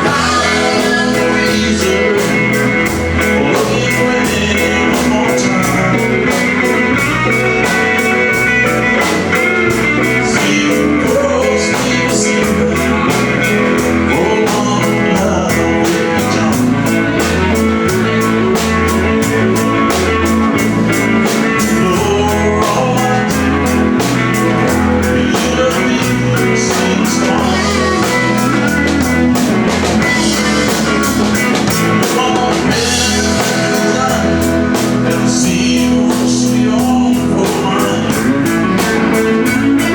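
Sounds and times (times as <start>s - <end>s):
live country-rock band playing: 0.0s - 39.9s.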